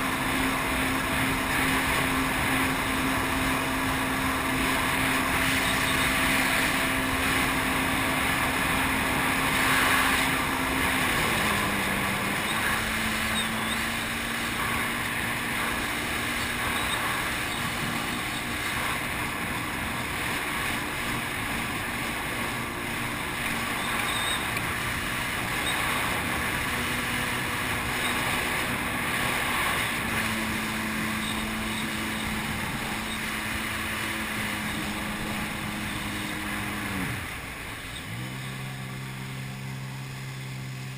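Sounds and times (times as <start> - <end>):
jet ski engine running: 0.0 - 40.9
rushing water and wind: 0.0 - 40.9.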